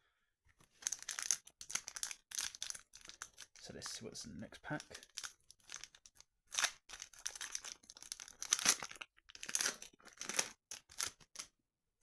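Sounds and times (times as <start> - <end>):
foil wrapper crinkling: 0.7 - 4.0, 4.7 - 11.5.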